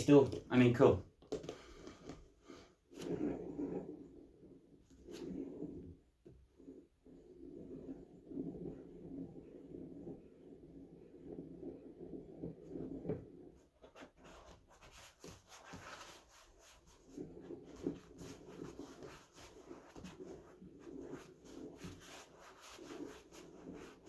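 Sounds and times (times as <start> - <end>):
rubbing and rustling: 0.0 - 24.0.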